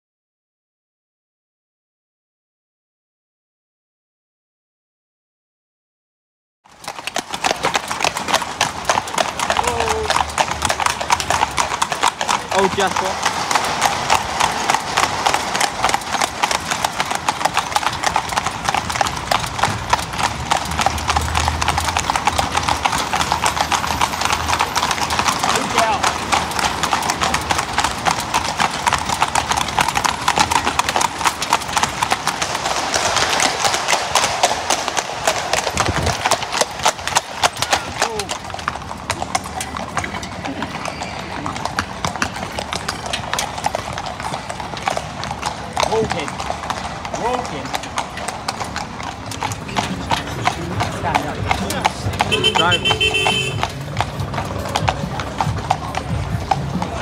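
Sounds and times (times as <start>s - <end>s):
hooves clip-clopping on road: 6.6s - 57.0s.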